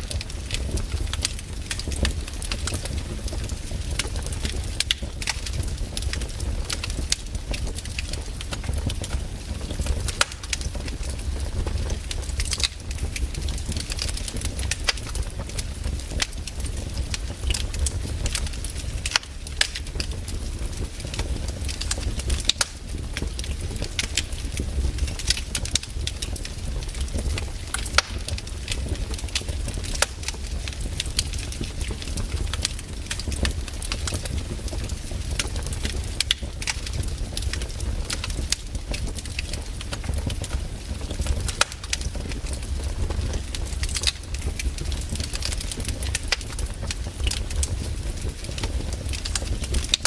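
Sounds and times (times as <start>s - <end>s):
campfire crackling and popping: 0.0s - 50.0s
low fire rumble: 0.0s - 50.0s.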